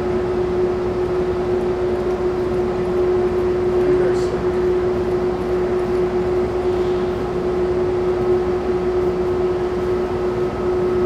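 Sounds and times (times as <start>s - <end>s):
steady machinery hum: 0.0s - 11.0s.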